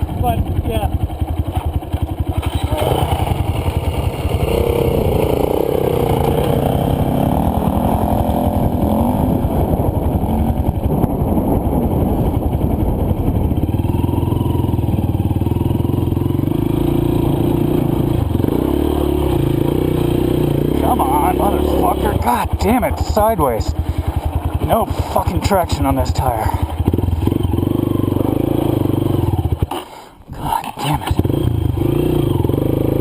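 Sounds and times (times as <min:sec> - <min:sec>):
dirt bike engine revving: 0:00.0 - 0:30.1, 0:31.1 - 0:33.0.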